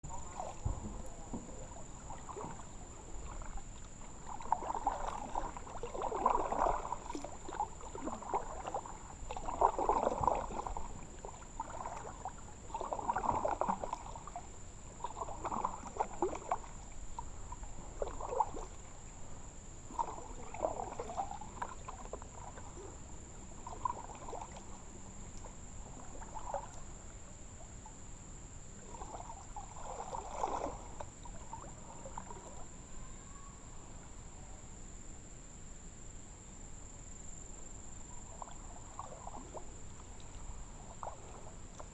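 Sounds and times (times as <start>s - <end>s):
paddle strokes splashing in water: 0.0s - 32.9s, 37.6s - 41.9s.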